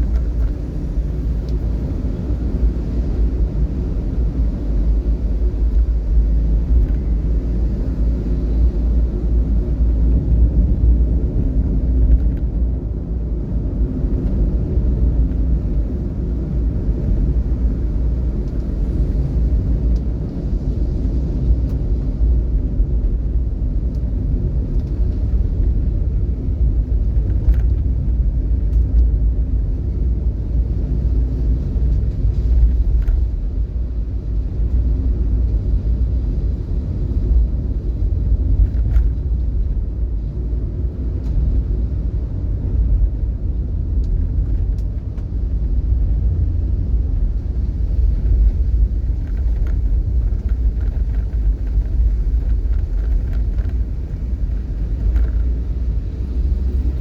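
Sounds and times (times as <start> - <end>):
car rumbling on road: 0.0 - 57.0.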